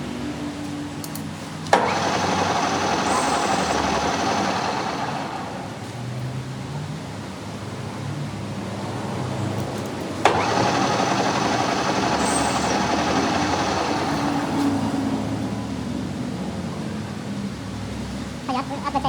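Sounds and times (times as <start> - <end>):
workshop machine running: 0.0 - 17.1.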